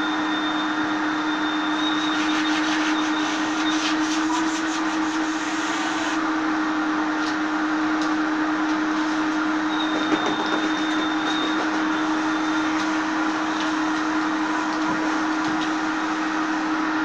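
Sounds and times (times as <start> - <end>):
thin high whine: 0.0 - 6.3, 8.9 - 16.8
vacuum cleaner running: 0.0 - 17.0.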